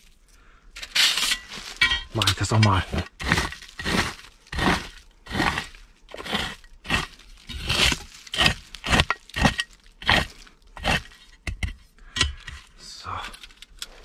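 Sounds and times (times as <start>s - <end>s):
scraping dry forest litter: 0.0s - 11.4s.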